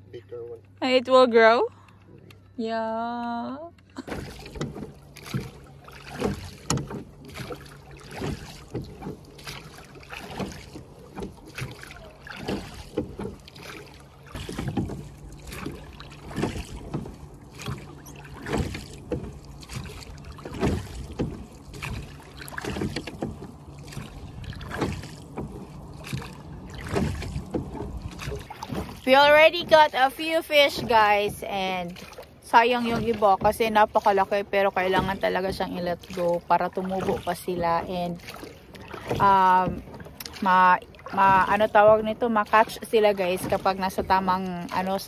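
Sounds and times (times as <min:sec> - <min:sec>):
oars splashing in water: 0:03.6 - 0:45.0.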